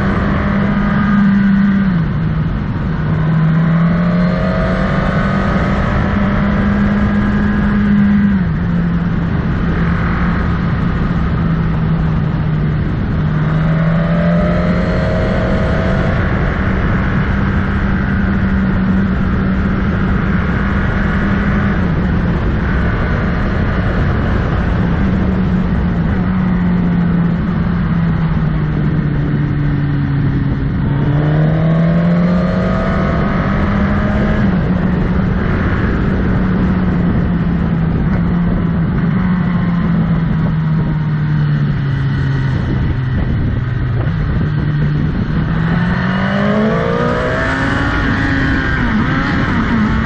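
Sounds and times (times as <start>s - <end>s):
motorcycle engine accelerating: 0.0s - 50.0s
wind and road noise: 0.0s - 50.0s.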